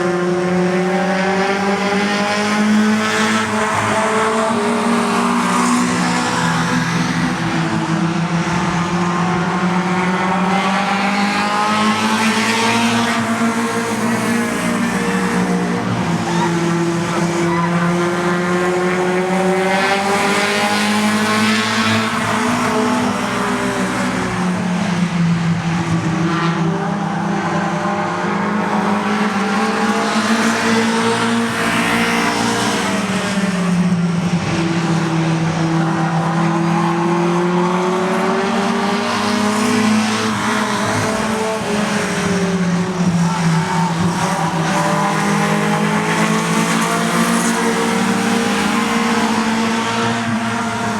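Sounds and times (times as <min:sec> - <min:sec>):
race car engines passing: 0:00.0 - 0:50.9.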